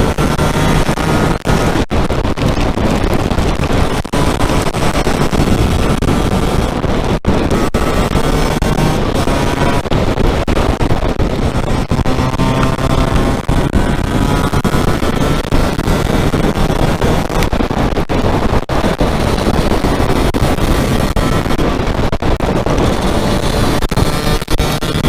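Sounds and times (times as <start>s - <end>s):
two-stroke engine running: 0.0s - 25.0s
wind rush on microphone: 0.0s - 25.0s.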